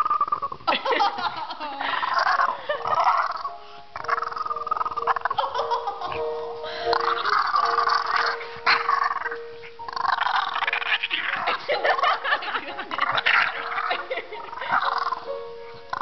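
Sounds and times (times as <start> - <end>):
dog grumbling vocalizations: 2.0 - 16.0.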